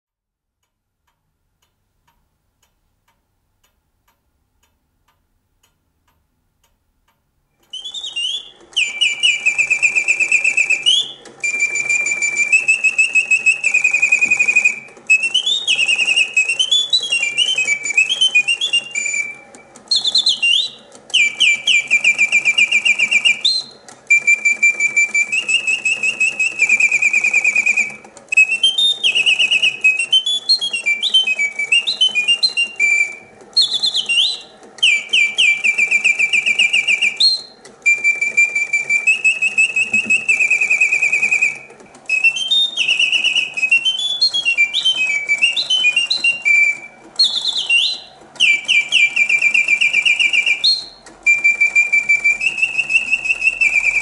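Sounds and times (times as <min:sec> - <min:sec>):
mechanical birdsong whistle: 0:07.5 - 0:54.0.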